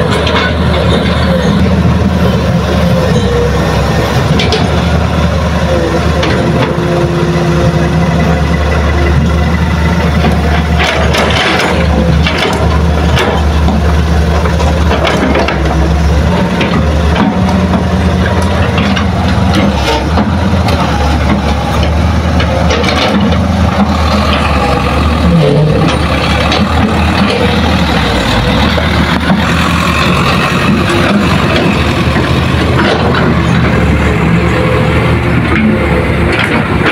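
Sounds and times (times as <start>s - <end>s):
diesel engines running: 0.0s - 36.9s.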